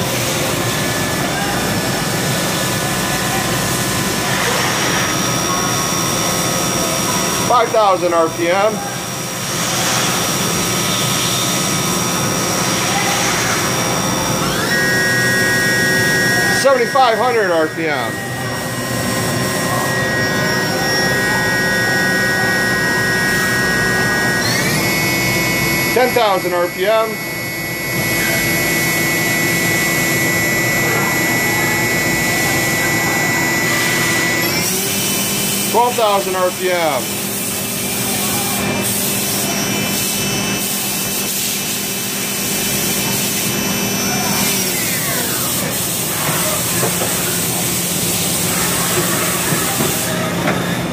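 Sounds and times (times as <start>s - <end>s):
machine hum: 0.0s - 50.9s
mill spindle high whine: 0.0s - 50.9s.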